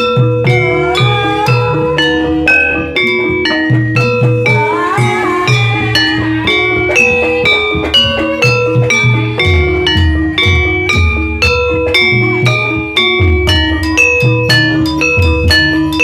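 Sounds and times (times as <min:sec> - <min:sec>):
low drum beats: 0:00.0 - 0:16.0
pitched percussion melody: 0:00.0 - 0:16.0.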